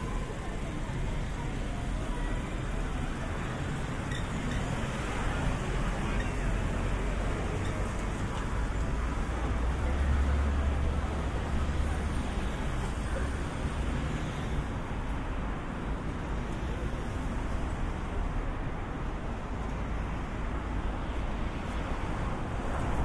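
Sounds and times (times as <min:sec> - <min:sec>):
cars driving through: 0:00.0 - 0:23.0.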